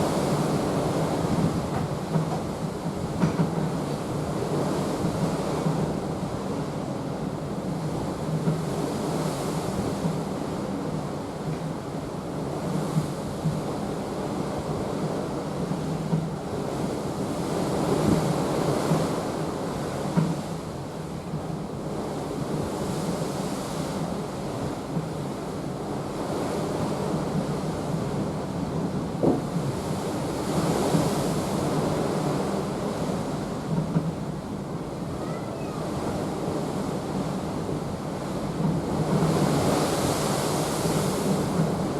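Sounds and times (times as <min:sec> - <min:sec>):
sea water rushing along hull: 0:00.0 - 0:41.9.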